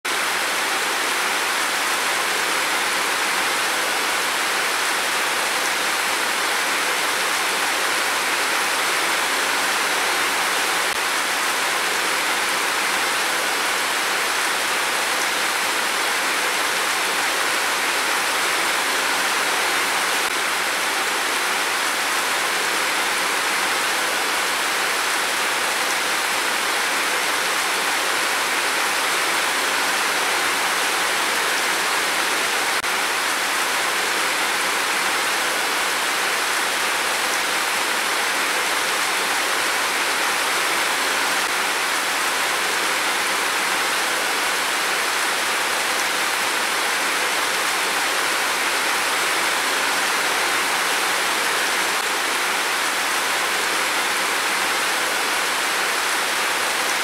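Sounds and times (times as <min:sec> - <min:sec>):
heavy rain downpour: 0:00.0 - 0:57.0.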